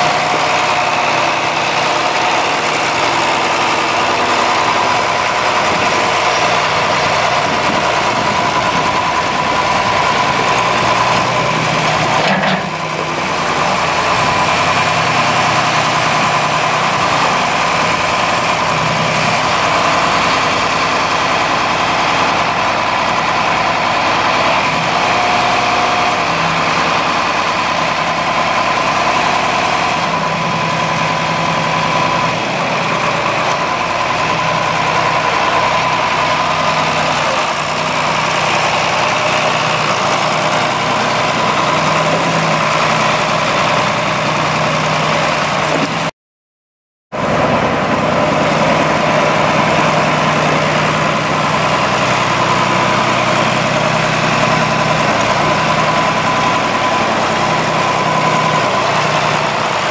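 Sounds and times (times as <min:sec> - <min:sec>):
diesel tractor engine idling: 0:00.0 - 0:46.1, 0:47.2 - 0:59.9.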